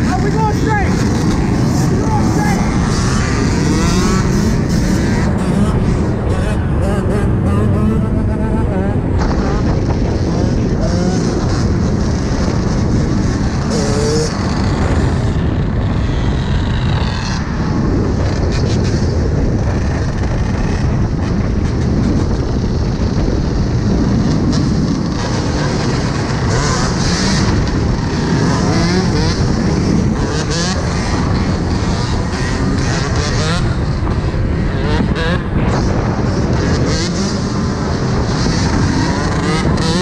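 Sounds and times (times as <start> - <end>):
dirt bike engines revving: 0.0 - 40.0.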